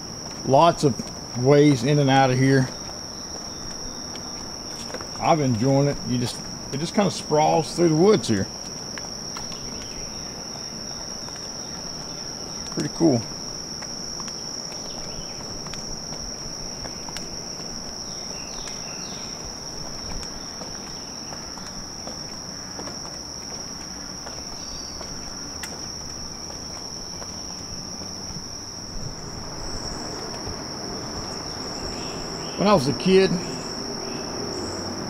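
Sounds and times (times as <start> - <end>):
shrill insect chorus: 0.0 - 35.0.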